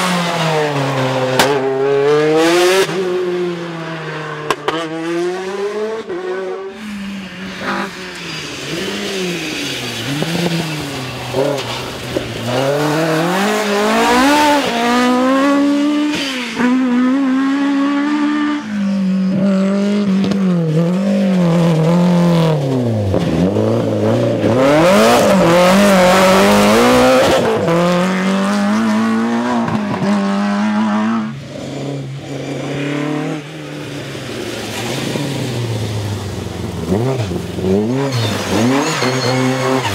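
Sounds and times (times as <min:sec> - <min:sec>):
rally car engines revving past: 0:00.0 - 0:39.9.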